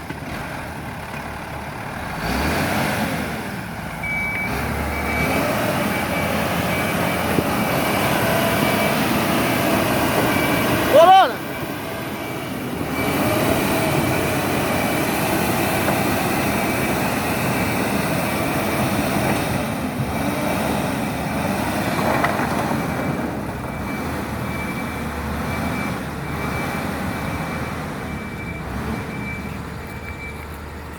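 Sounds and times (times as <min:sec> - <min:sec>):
diesel engine under load: 0:00.0 - 0:30.9.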